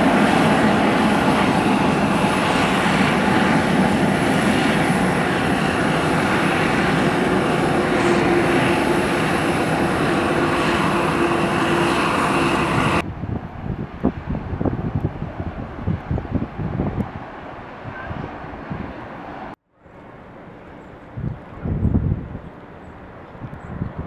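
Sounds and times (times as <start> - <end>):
airliner engines running: 0.0 - 24.0.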